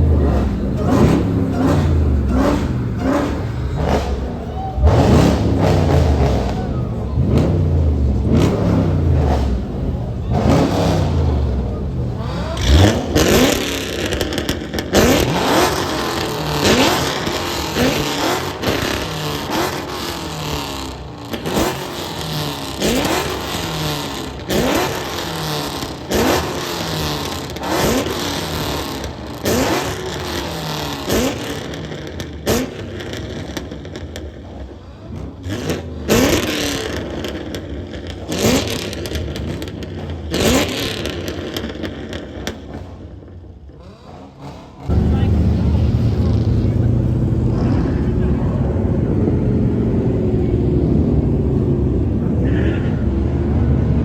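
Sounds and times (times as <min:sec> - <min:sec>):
car engine revving in blips: 0:00.0 - 0:54.0.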